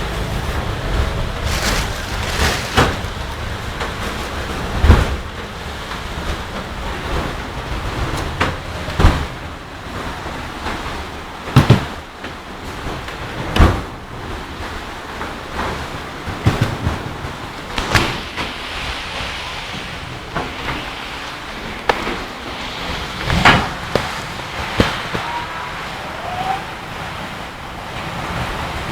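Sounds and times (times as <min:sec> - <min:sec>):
strong wind buffeting microphone: 0:00.0 - 0:28.9.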